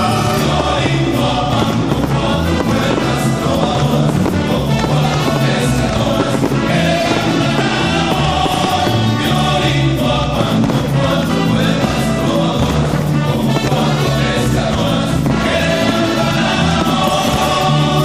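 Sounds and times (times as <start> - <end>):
choir singing with accompaniment: 0.0 - 18.0.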